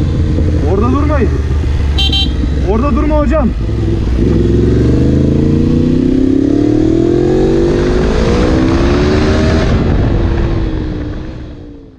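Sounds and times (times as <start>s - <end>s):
motorcycle accelerating hard: 0.0s - 11.9s.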